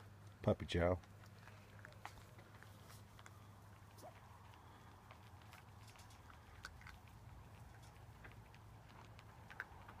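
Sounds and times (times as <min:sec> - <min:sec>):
puppies chewing sticks: 0:00.0 - 0:10.0.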